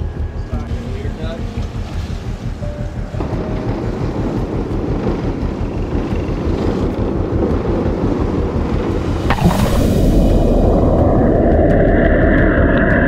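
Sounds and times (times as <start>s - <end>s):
boat engines rumbling: 0.0s - 13.0s
wind buffeting microphone: 0.0s - 13.0s.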